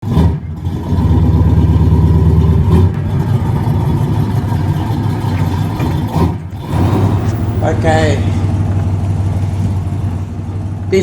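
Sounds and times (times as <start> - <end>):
car engine pulsing: 0.0 - 11.0.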